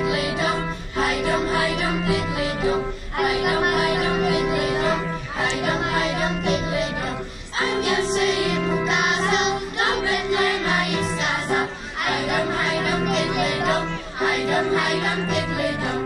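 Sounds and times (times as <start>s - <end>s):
children's choir singing: 0.0s - 16.0s
keyboard accompaniment: 0.0s - 16.0s.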